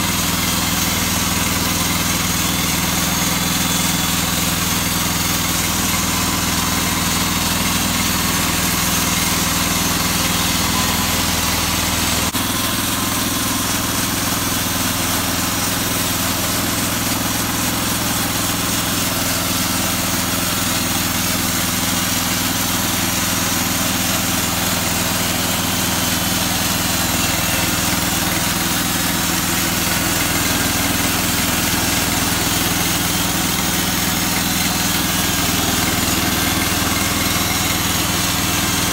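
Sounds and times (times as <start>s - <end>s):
sawmill small engine running: 0.0s - 38.9s.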